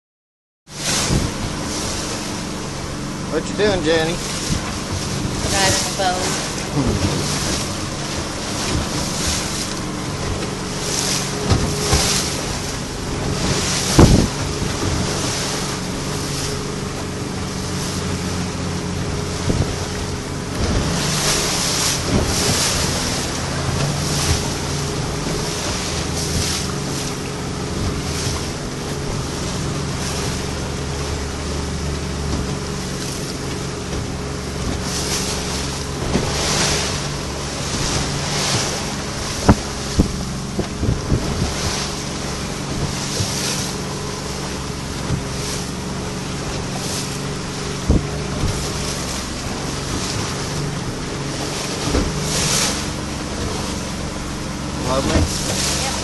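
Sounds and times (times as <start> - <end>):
outboard motors running: 0.7 - 56.0
water rushing: 0.7 - 56.0
wind buffeting the microphone: 0.9 - 30.8, 31.8 - 56.0.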